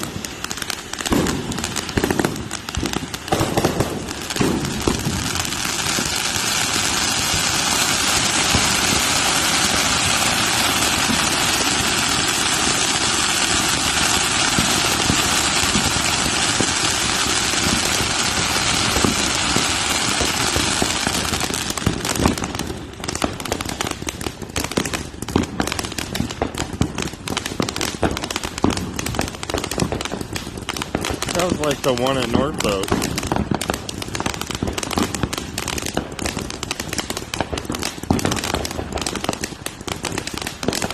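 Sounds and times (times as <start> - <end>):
firework hissing and crackling: 0.0 - 40.9.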